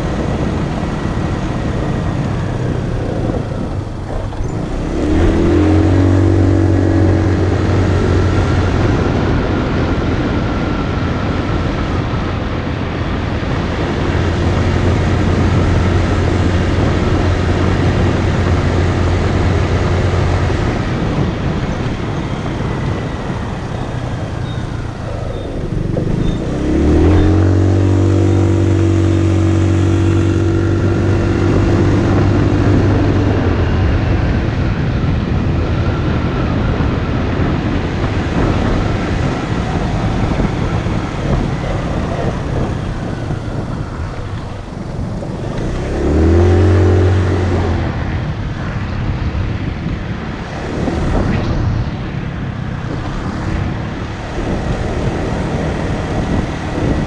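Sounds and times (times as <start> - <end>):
motorcycle engine running: 0.0 - 57.0
rushing noise: 0.0 - 57.0.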